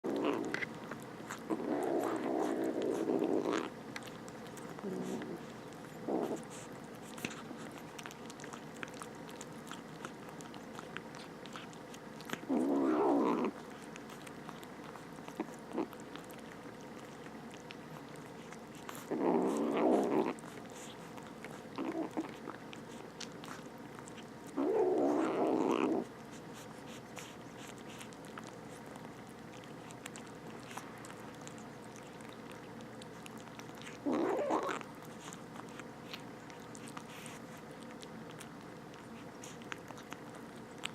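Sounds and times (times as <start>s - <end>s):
chewing and biting clicks: 0.0s - 40.9s
kittens growling: 0.0s - 40.9s.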